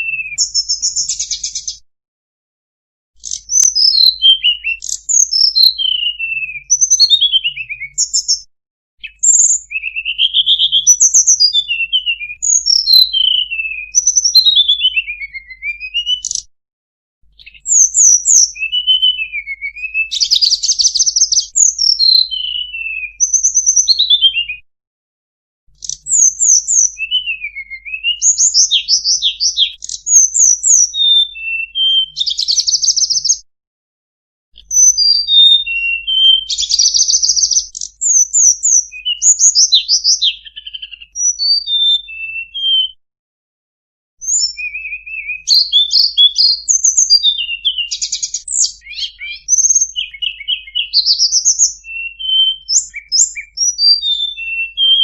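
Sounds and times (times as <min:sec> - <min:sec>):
flycatcher whistled song: 0:00.0 - 0:01.8, 0:03.2 - 0:16.5, 0:17.4 - 0:24.7, 0:25.8 - 0:33.4, 0:34.6 - 0:43.0, 0:44.2 - 0:55.0.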